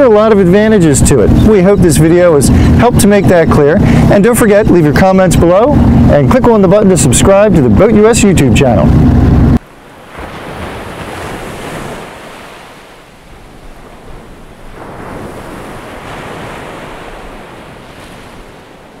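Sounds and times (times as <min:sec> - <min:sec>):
waves washing in: 0:00.0 - 0:19.0.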